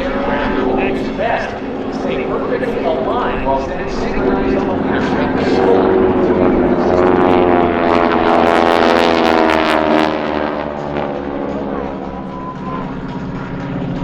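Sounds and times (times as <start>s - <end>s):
propeller aircraft engine drone: 0.0s - 14.0s.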